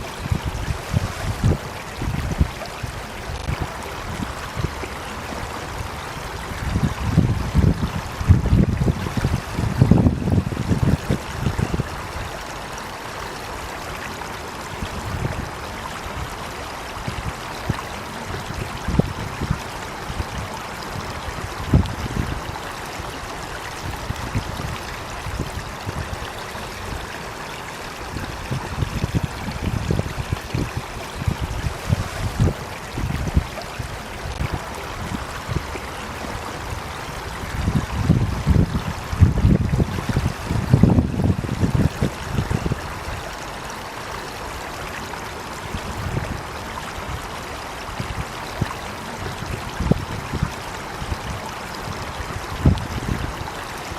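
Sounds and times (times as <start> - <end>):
water rushing: 0.0 - 53.9.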